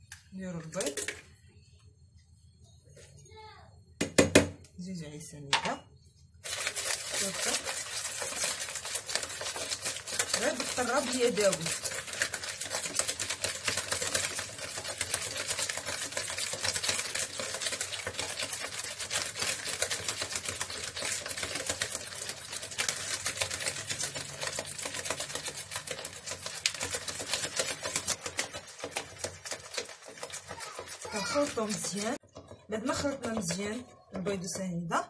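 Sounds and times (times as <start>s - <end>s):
whisk rattling in bowl: 0.7s - 1.2s, 6.4s - 34.7s.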